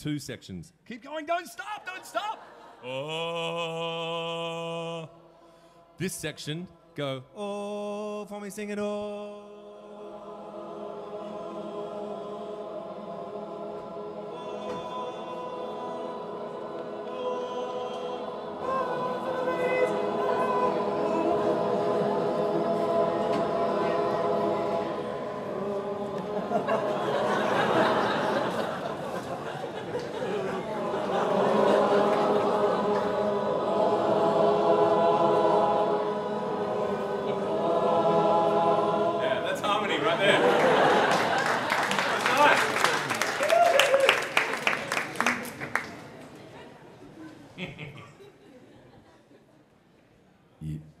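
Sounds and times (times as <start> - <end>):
audience singing in harmony: 2.2 - 5.7, 7.4 - 47.3.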